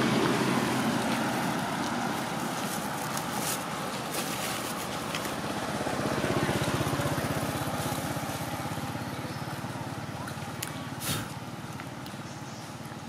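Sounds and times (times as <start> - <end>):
motorcycle engine passing: 0.0 - 13.0.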